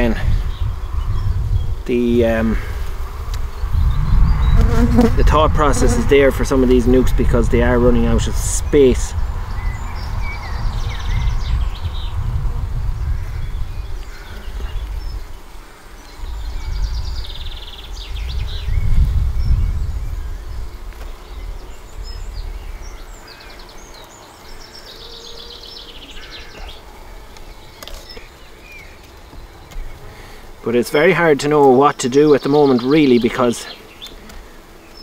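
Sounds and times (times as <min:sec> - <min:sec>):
honey bees buzzing: 0:00.0 - 0:35.0.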